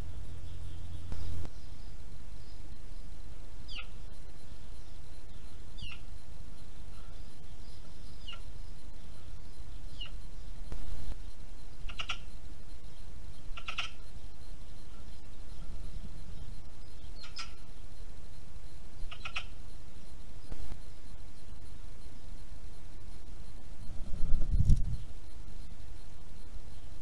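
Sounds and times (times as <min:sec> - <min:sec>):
magpies calling: 0:00.0 - 0:22.9
steady low hiss: 0:00.0 - 0:27.0.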